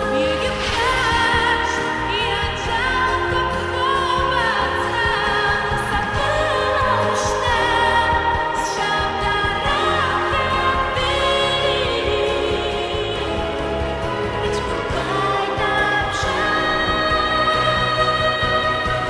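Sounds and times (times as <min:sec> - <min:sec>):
orchestral backing music: 0:00.0 - 0:19.0
woman singing with vibrato: 0:00.0 - 0:19.0.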